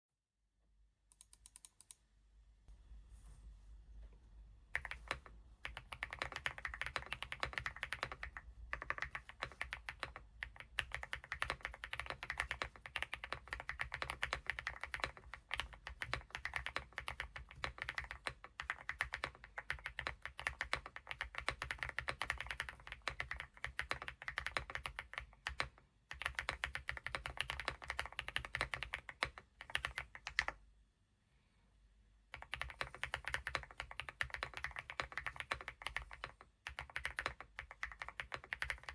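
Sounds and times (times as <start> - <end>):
mechanical keyboard typing: 4.8 - 30.6, 32.3 - 38.9.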